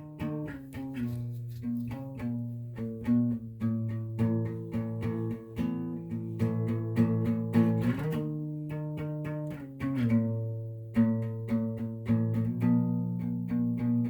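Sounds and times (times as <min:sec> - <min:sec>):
plucked guitar music: 0:00.0 - 0:14.0.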